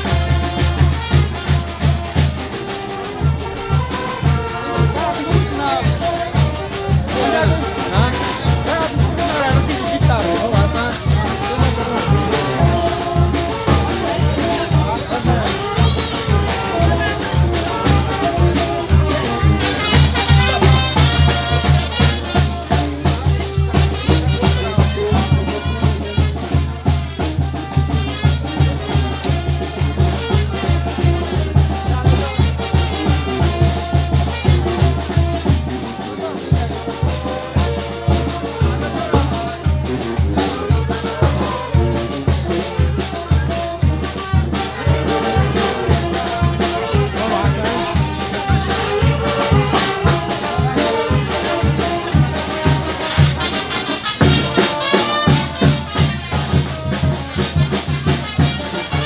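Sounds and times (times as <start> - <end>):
brass band music: 0.0 - 59.0.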